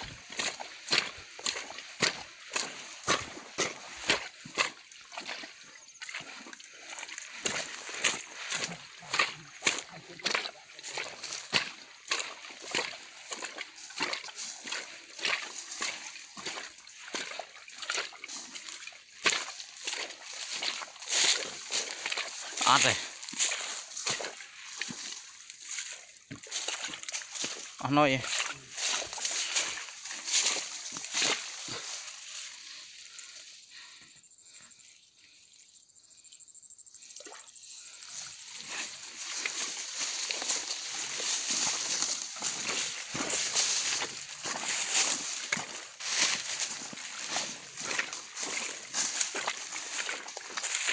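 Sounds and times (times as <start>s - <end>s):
hands sloshing in water: 0.0s - 33.3s, 37.1s - 50.9s
footsteps crunching on dry leaves: 0.0s - 34.0s, 37.7s - 50.9s
grass rustling: 0.0s - 34.6s, 37.0s - 50.9s.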